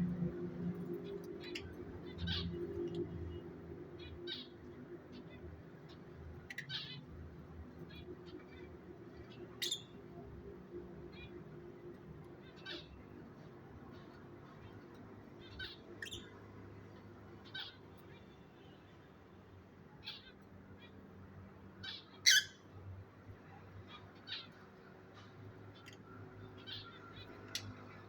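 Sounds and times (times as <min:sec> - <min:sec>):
lovebirds chirping and squawking: 0:00.1 - 0:18.6, 0:19.8 - 0:22.8, 0:23.4 - 0:28.0.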